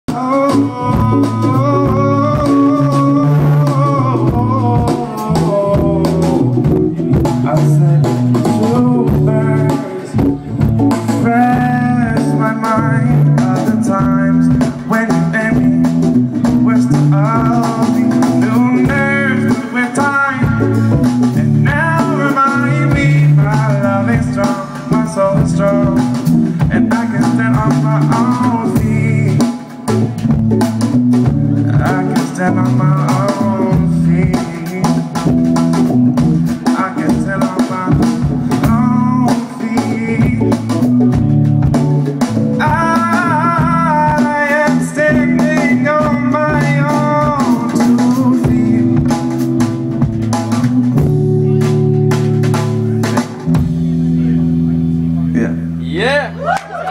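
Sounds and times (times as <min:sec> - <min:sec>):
man singing: 0:00.0 - 0:30.3, 0:31.2 - 0:51.8
bass guitar: 0:00.0 - 0:56.9
drum kit: 0:00.0 - 0:56.9
electric guitar: 0:00.0 - 0:56.9.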